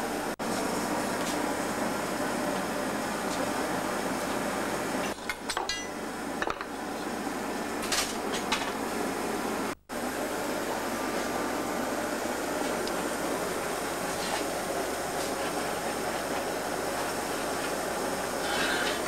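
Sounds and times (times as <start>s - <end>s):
furnace roaring: 0.0s - 19.0s.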